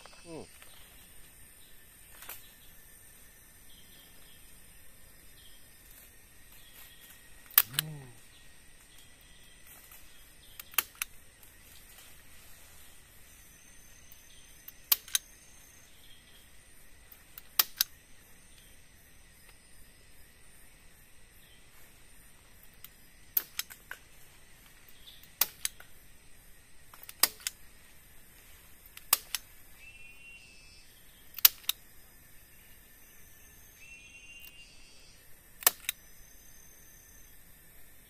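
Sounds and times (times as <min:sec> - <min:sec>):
high-pitched insect drone: 0:00.0 - 0:23.4, 0:29.5 - 0:38.0.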